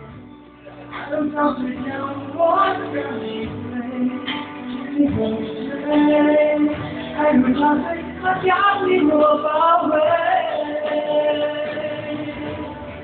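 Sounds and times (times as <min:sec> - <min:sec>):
backing music: 0:00.0 - 0:13.0
man singing into microphone: 0:01.0 - 0:13.0.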